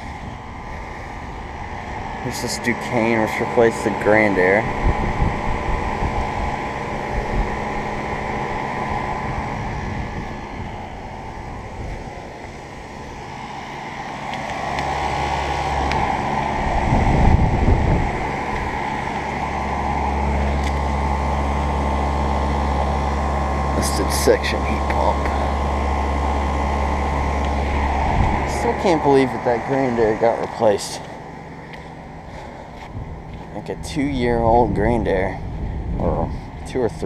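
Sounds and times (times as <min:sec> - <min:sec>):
heat pump compressor hum: 0:00.0 - 0:37.0
low rumble: 0:00.0 - 0:37.0.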